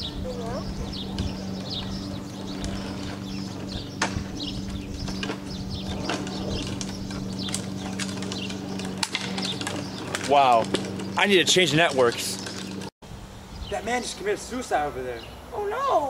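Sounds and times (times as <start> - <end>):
steady low hum: 0.0 - 14.0
small birds chirping: 0.0 - 16.0.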